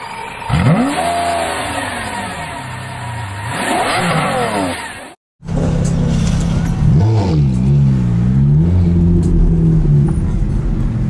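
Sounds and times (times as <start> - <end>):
car engine revving: 0.4 - 11.0.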